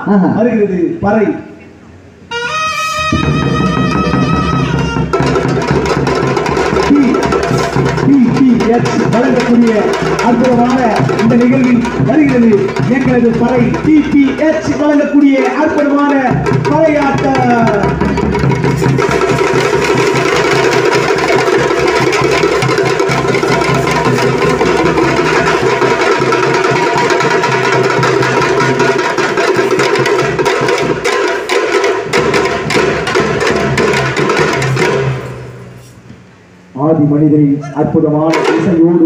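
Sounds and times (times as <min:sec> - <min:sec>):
frame drums beaten with sticks: 0:02.5 - 0:35.9, 0:38.2 - 0:39.0
large barrel drum: 0:03.0 - 0:35.8, 0:38.2 - 0:39.0.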